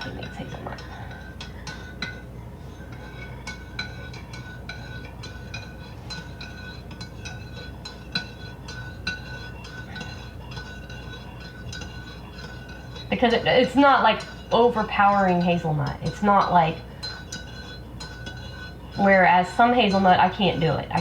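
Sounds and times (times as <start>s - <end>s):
spoon clinking in a mug: 0.0s - 21.0s.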